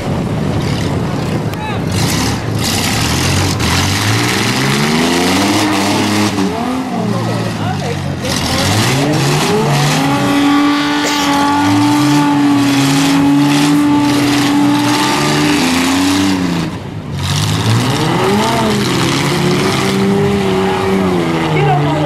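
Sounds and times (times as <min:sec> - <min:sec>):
van engines revving hard: 0:00.0 - 0:22.0.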